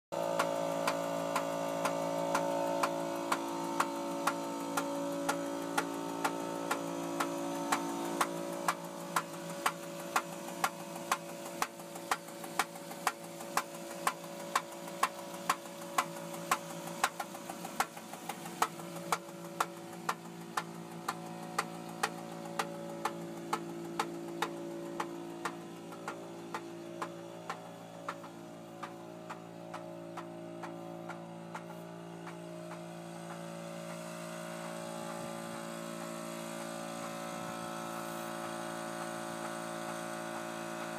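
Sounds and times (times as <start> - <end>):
car engine humming: 0.2 - 40.9
sharp regular engine knock: 0.2 - 40.9.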